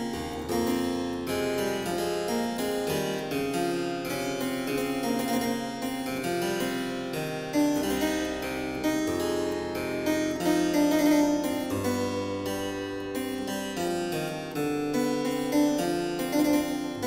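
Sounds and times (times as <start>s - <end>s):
solo harpsichord playing: 0.0s - 17.0s.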